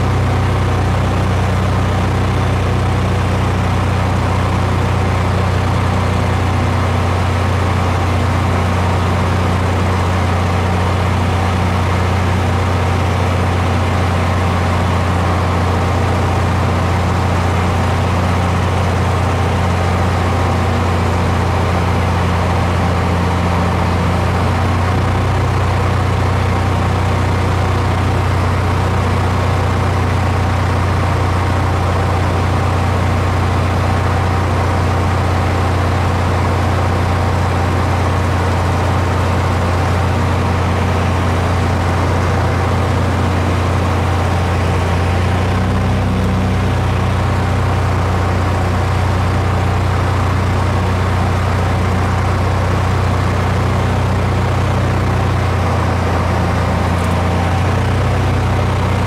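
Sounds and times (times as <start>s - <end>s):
aircraft engine drone: 0.0s - 59.0s
constant rushing noise: 0.0s - 59.0s.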